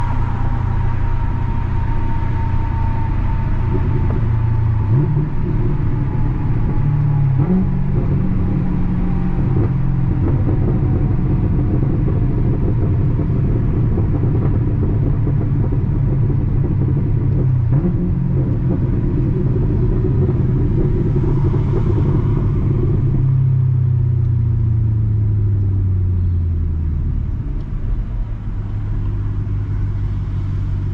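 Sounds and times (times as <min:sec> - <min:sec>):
car engine exhaust revving: 0:00.0 - 0:26.0.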